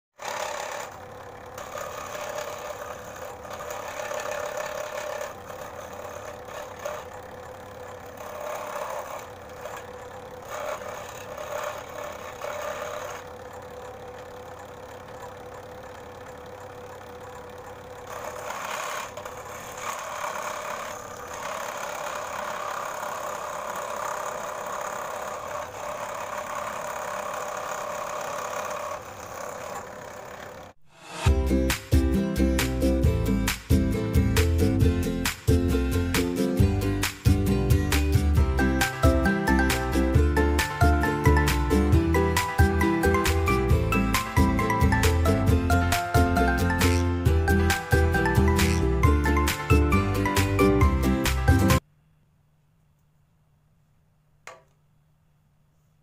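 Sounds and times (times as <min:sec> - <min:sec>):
scroll saw motor hum: 0:00.0 - 0:31.3, 0:36.0 - 0:51.9.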